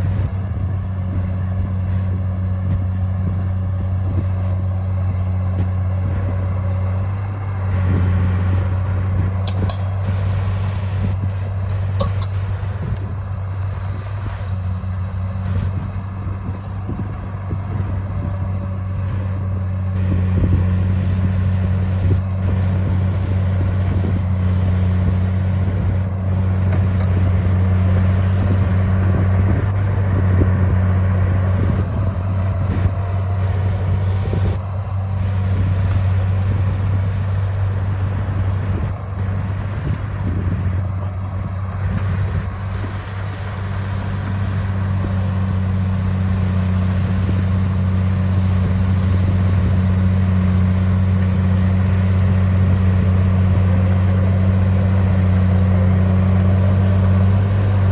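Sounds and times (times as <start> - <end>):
bulldozer diesel engine: 0.0 - 57.9.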